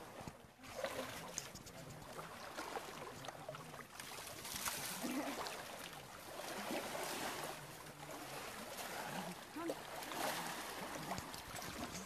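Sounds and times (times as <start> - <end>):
water splashing from wading: 0.0 - 12.0.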